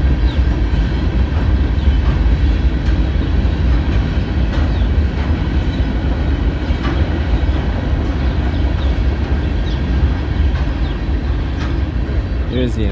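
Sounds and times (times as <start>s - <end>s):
freight train rumbling past: 0.0s - 12.9s.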